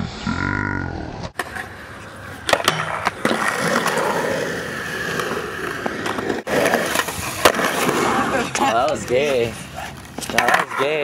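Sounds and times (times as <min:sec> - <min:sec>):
skateboard wheels rolling on concrete: 0:01.2 - 0:11.0.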